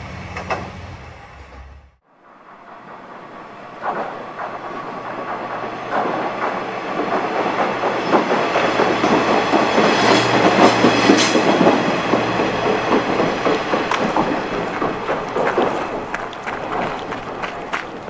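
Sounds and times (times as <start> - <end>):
railcar engine humming: 0.0 - 18.0
wheels clattering over rails: 2.2 - 18.0.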